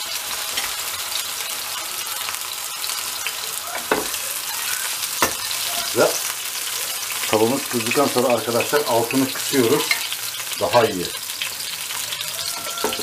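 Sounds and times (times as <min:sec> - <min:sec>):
bread sizzling in oil: 0:00.0 - 0:13.0.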